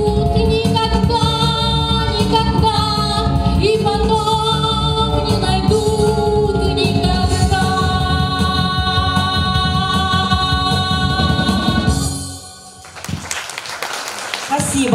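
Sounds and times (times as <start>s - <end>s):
backing track with drums: 0.0s - 12.3s.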